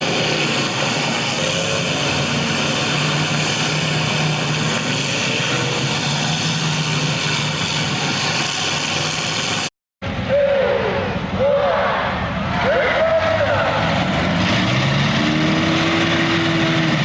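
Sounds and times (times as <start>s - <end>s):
broad noise: 0.0s - 17.0s
car engines idling: 0.0s - 17.0s.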